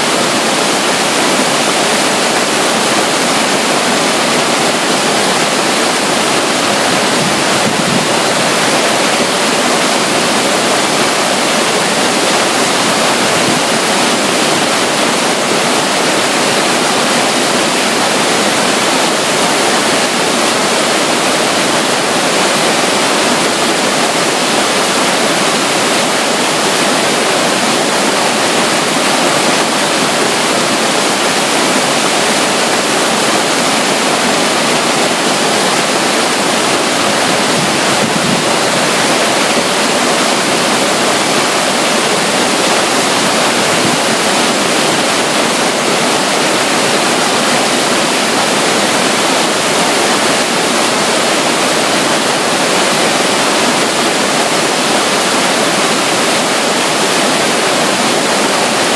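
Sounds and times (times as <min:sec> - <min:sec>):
stream water rushing: 0:00.0 - 0:58.9.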